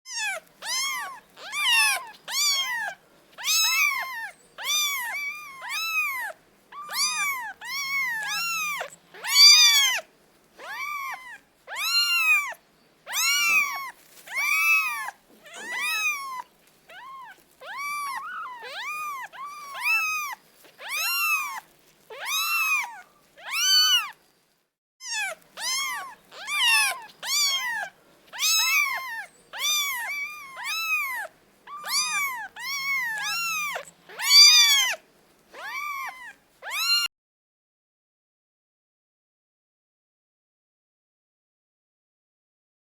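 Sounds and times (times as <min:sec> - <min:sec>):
kitten meowing: 0:00.1 - 0:24.2, 0:25.0 - 0:37.1.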